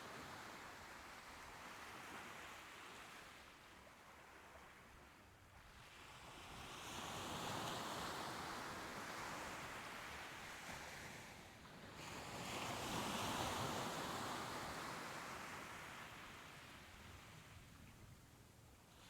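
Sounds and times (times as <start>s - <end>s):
soft ocean waves washing ashore: 0.0s - 19.0s.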